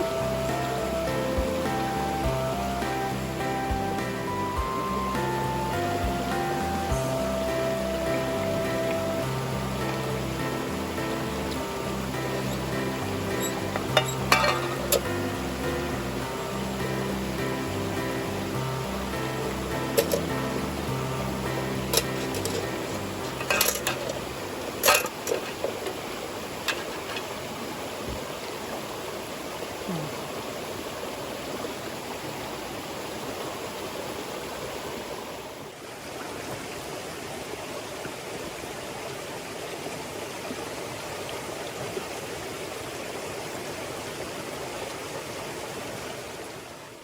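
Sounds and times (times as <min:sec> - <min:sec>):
stream babbling: 0:00.0 - 0:47.0.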